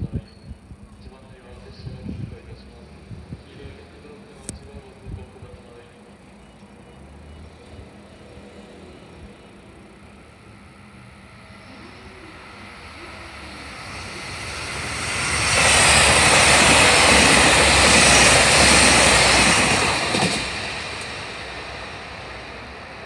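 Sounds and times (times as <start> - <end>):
diesel train passing at speed: 0.0 - 23.0.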